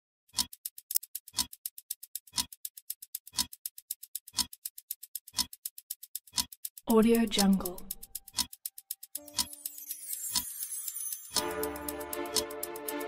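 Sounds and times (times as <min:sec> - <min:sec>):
clock ticking: 0:00.3 - 0:13.0.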